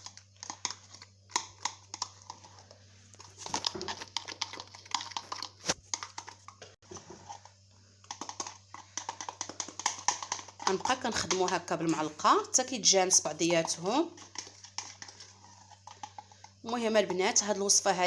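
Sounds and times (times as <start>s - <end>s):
spoon scraping bowl: 0.0s - 18.0s.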